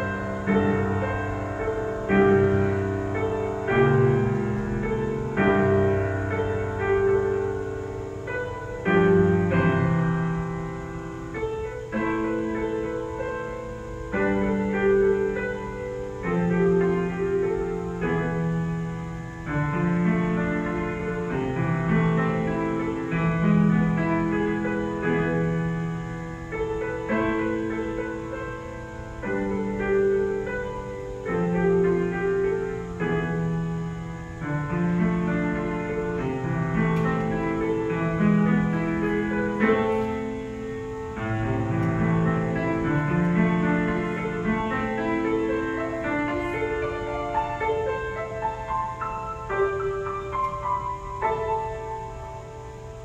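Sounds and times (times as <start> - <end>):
solo piano piece: 0.0 - 53.0.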